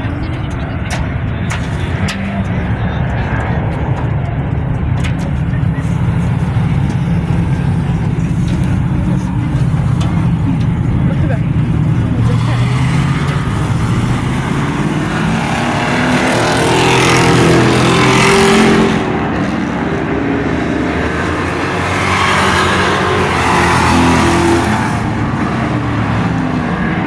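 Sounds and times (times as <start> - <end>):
race car engines at high revs: 0.0 - 27.0.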